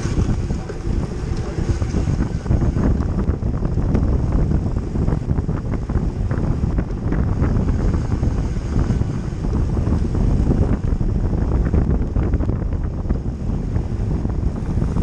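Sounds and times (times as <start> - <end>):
tyres rumbling on asphalt: 0.0 - 15.0
wind buffeting microphone: 0.0 - 15.0.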